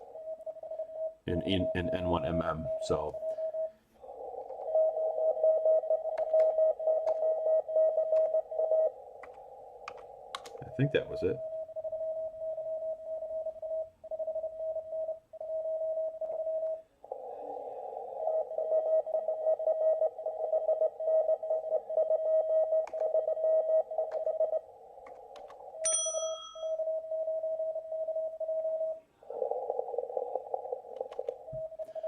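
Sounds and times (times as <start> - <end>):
receiver hiss: 0.0 - 25.9, 26.6 - 32.0
morse code steady tone: 0.0 - 32.0.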